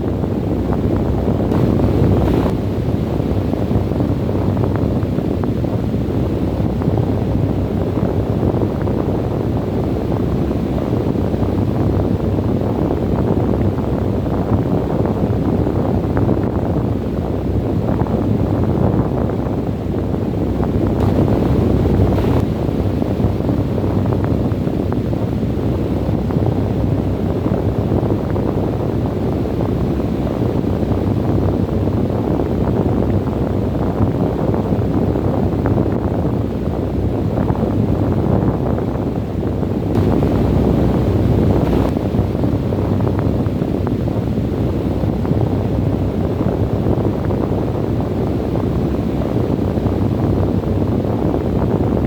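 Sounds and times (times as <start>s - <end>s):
strong wind buffeting microphone: 0.0s - 52.0s.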